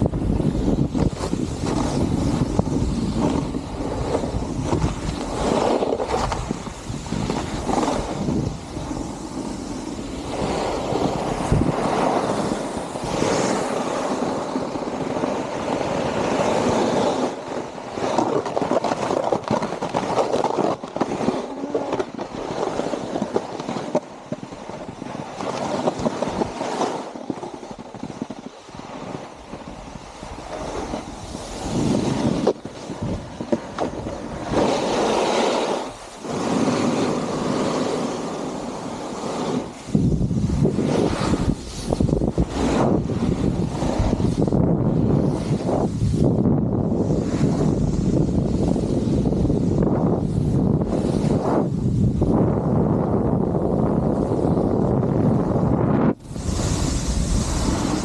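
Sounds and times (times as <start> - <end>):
snowboard edge scraping snow: 0.0 - 58.0
wind buffeting microphone: 0.0 - 58.0.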